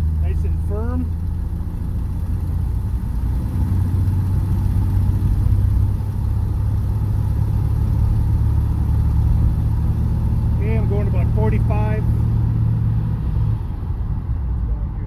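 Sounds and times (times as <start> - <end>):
car engine drone: 0.0 - 15.0
road and wind noise: 0.0 - 15.0.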